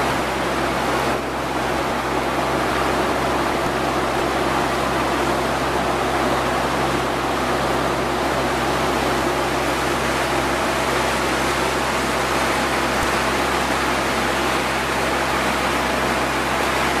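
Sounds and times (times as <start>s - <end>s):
motorboat engine drone: 0.0s - 17.0s
rushing water: 0.0s - 17.0s
wind: 0.0s - 17.0s.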